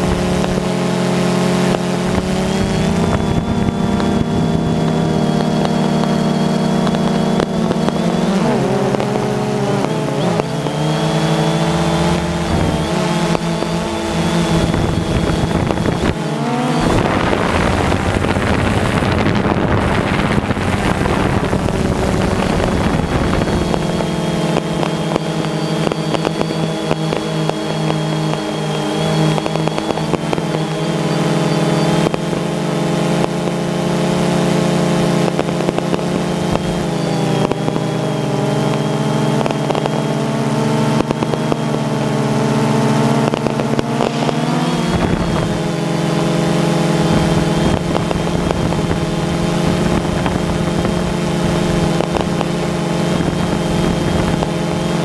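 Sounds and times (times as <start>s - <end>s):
drone motors buzzing hum: 0.0s - 55.0s
thin high whine: 0.0s - 55.0s.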